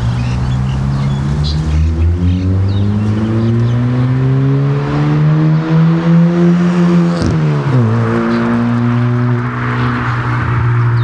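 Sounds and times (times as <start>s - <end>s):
car accelerating with loud exhaust: 0.0s - 11.0s.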